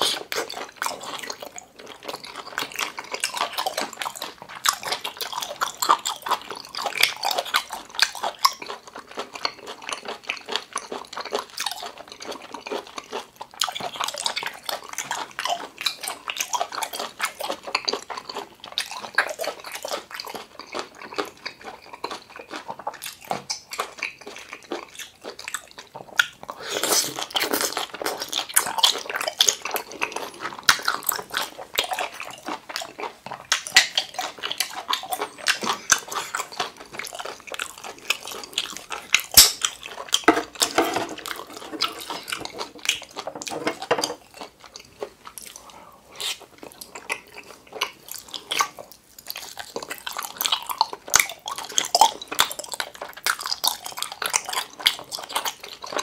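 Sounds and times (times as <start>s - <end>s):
chewing with clicking mouth sounds: 0.0s - 56.0s.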